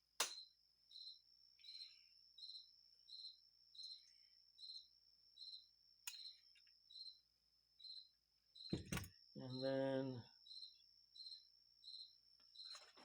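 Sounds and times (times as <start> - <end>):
faint cricket chirping: 0.0 - 13.0.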